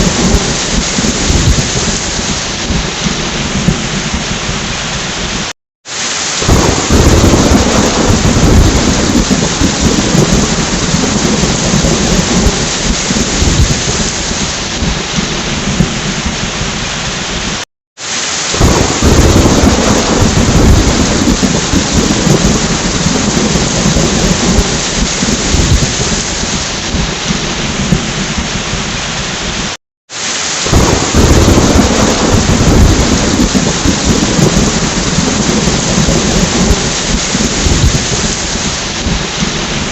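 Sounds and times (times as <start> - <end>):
thunder rumble: 0.0 - 5.5, 6.4 - 17.5, 18.6 - 29.7, 30.6 - 39.9
heavy rain: 0.0 - 39.9.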